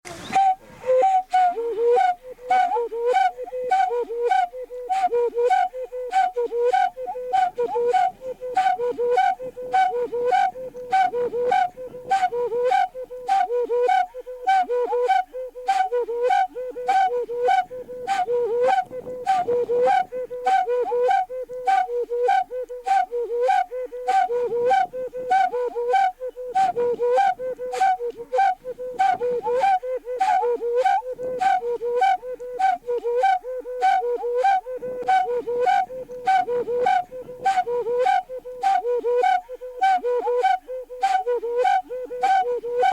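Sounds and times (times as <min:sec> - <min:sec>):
whistle-like two-note music: 0:00.1 - 0:42.9.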